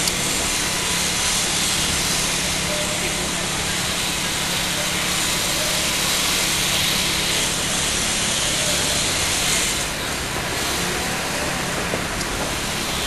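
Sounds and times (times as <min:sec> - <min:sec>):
street noise hiss: 0:00.0 - 0:13.0.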